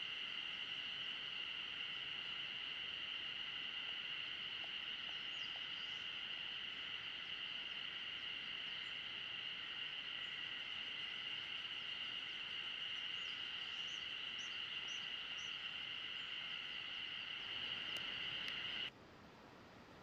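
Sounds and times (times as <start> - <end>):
high-pitched insect chorus: 0.0 - 18.9.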